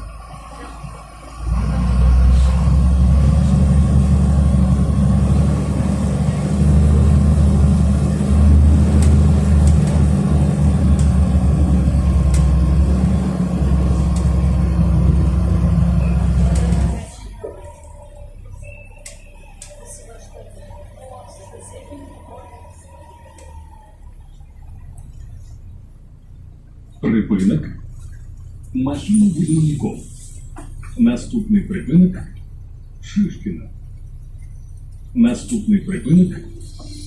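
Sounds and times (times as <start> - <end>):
bus engine rumbling: 0.0 - 37.0.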